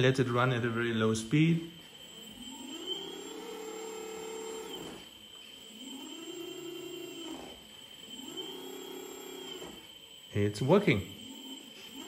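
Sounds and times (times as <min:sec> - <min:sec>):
electric hydraulic pump whining: 0:00.0 - 0:12.0.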